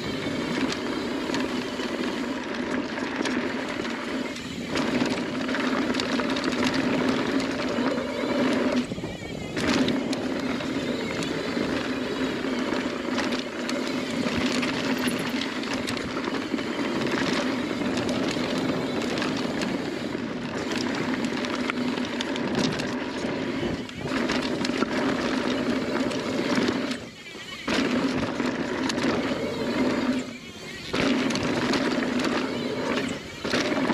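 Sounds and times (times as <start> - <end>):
bike tyres rolling over dirt: 0.0 - 33.9
rear hub buzzing: 0.0 - 33.9
bike knocks and rattles: 0.4 - 33.9.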